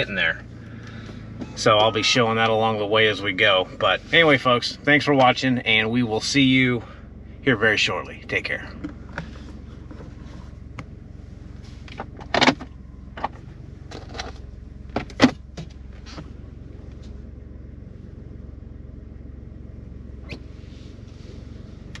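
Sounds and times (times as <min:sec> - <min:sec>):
pickup engine idling: 0:00.0 - 0:22.0.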